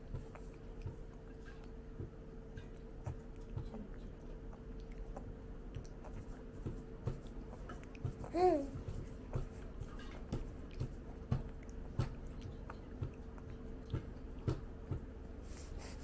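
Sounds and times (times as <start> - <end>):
chewing food: 0.0 - 16.0
faint steady hum: 0.0 - 16.0.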